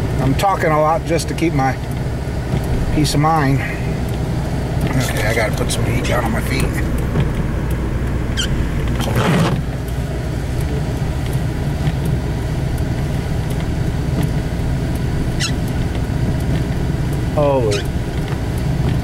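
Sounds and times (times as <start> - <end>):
vehicle cabin rumble: 0.0 - 19.0.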